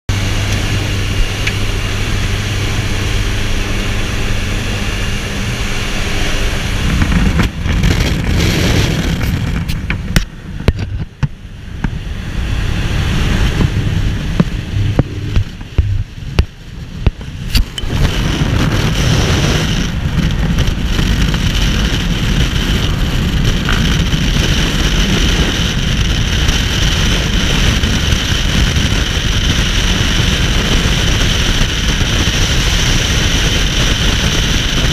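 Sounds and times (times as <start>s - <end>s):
propeller engine droning: 0.1s - 34.9s
rushing wind: 0.1s - 34.9s
wind buffeting microphone: 0.1s - 34.9s.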